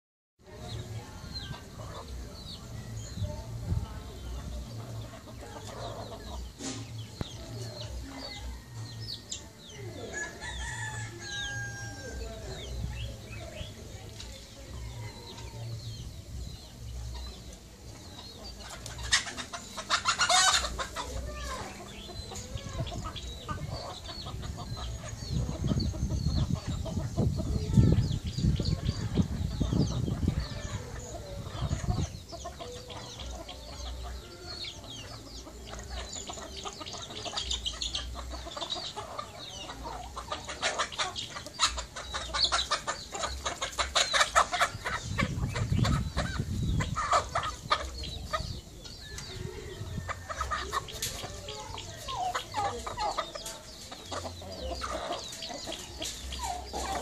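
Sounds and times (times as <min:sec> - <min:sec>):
chickens clucking and calling: 0:00.4 - 0:57.0.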